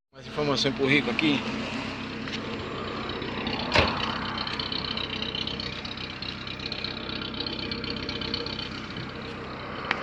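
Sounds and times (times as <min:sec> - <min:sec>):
car engine humming: 0:00.2 - 0:10.0.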